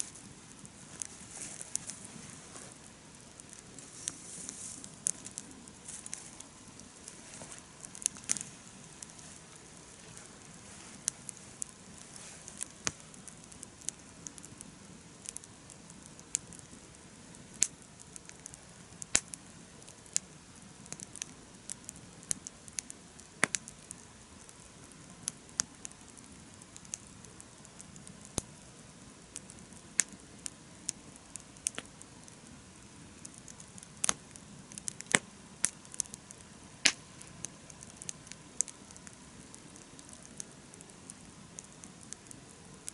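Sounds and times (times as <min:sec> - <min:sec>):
campfire crackling and popping: 0:00.0 - 0:42.9
faint hiss: 0:00.0 - 0:42.9.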